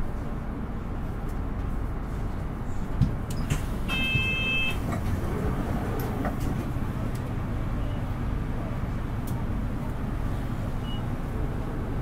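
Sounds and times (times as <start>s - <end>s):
bus diesel engine and road rumble: 0.0s - 12.0s.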